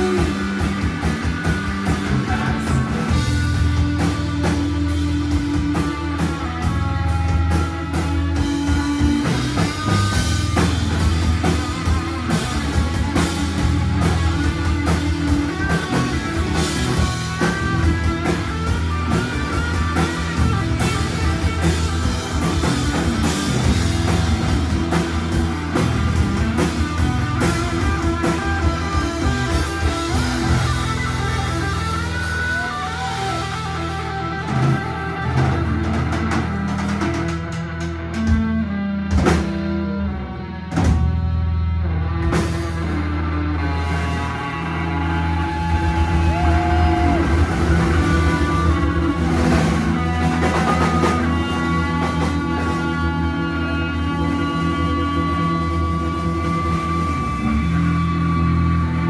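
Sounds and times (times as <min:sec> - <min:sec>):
drum kit: 0:00.0 - 0:59.0
electric bass: 0:00.0 - 0:59.0
electric guitar lines: 0:00.0 - 0:59.0.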